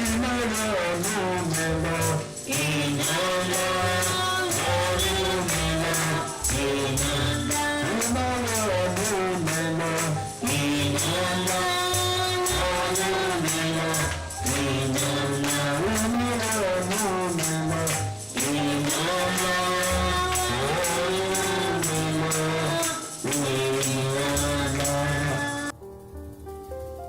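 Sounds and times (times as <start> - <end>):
shaken percussion beat: 0.0 - 25.7
sustained bass: 0.0 - 25.7.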